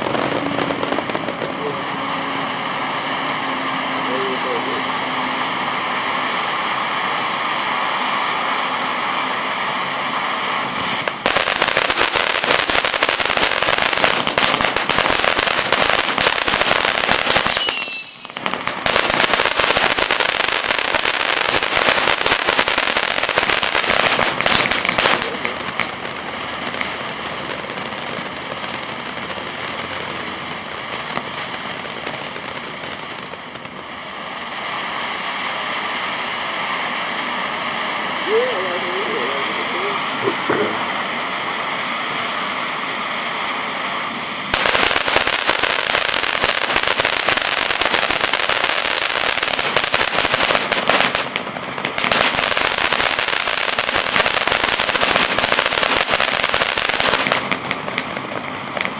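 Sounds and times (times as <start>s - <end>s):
firework fountain crackling hiss: 0.0s - 58.9s
firework whistle: 0.0s - 58.9s.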